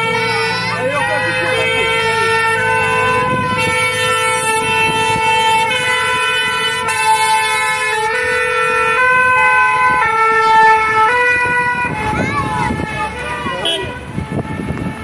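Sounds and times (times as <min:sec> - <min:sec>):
truck engines driving past: 0:00.0 - 0:15.0
two-tone fire engine siren: 0:00.0 - 0:15.0.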